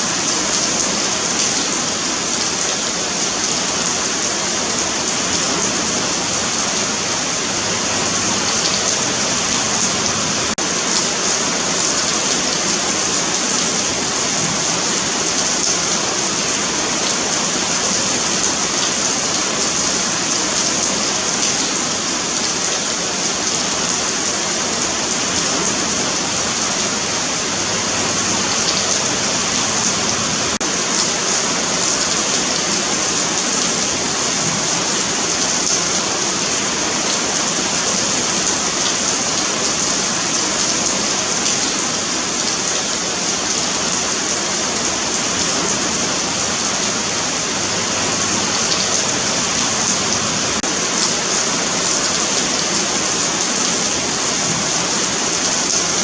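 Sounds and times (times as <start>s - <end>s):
rain on pavement: 0.0s - 56.0s.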